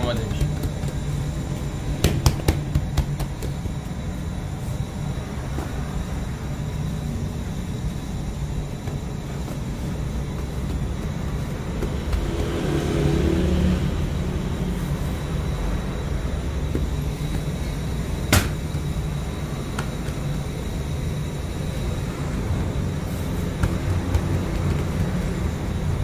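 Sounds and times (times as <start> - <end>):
machinery hum and rumble: 0.0 - 26.0.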